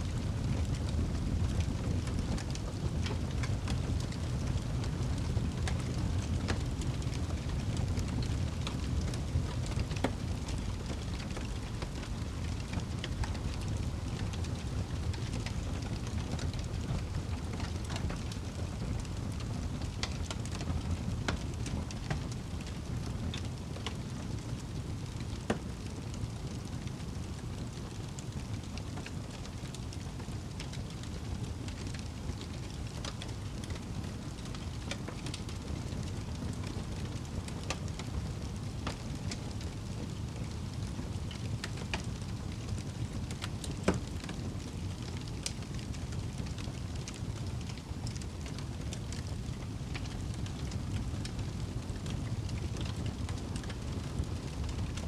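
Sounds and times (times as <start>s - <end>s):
fire flames rumbling: 0.0s - 55.0s
wood fire crackling and popping: 0.0s - 55.0s.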